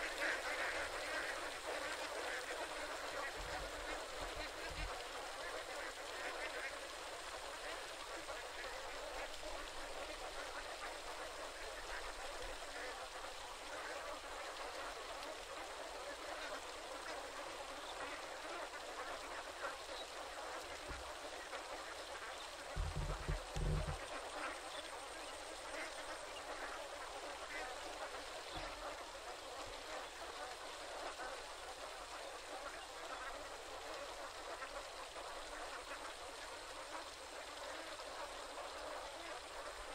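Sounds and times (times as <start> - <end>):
flock of ducks quacking: 0.0 - 39.9.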